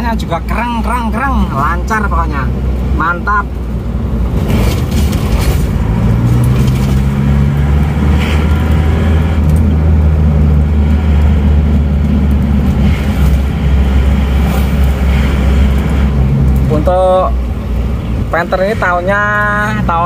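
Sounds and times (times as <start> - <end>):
diesel engine droning: 0.0 - 20.0
road noise: 0.0 - 20.0.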